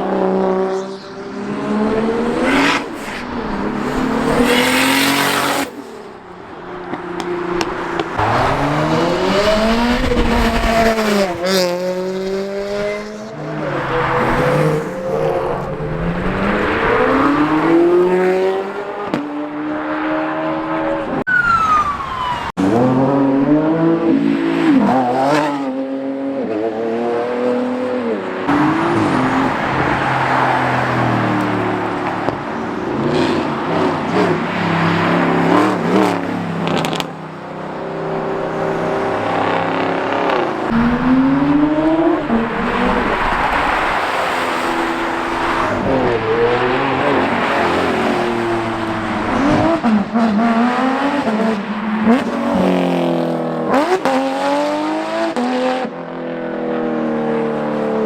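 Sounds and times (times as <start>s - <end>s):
car engines revving past: 0.0s - 57.9s.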